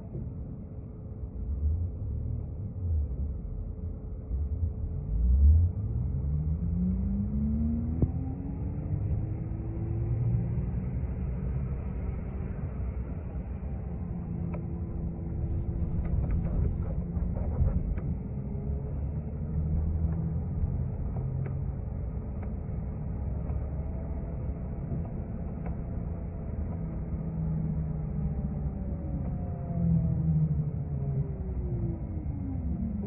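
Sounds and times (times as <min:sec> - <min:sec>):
bus engine and road rumble: 0:00.0 - 0:33.0
faint drivetrain whine: 0:00.1 - 0:33.0.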